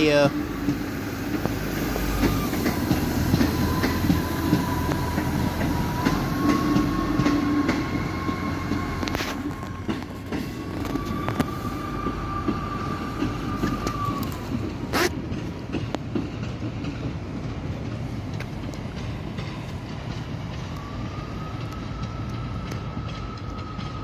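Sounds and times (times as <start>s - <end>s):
diesel train rumbling: 0.0s - 24.0s
wheels clicking over track: 0.0s - 24.0s.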